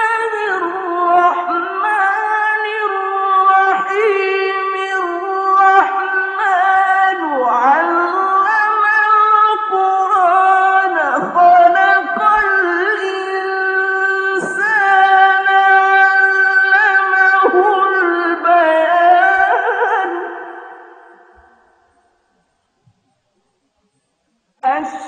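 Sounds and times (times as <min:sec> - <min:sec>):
high voice chanting: 0:00.0 - 0:21.6, 0:24.6 - 0:25.0.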